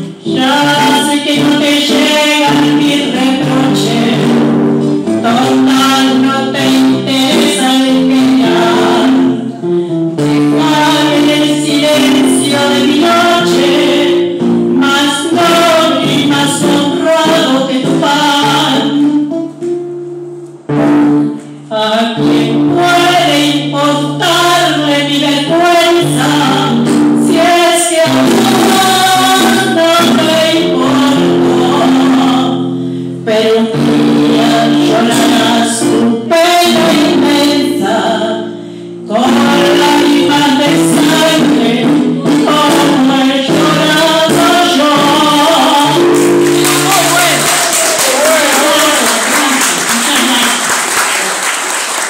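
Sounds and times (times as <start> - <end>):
woman singing into microphone: 0.0 - 19.8, 20.8 - 50.7
musical accompaniment with bass: 0.0 - 51.2.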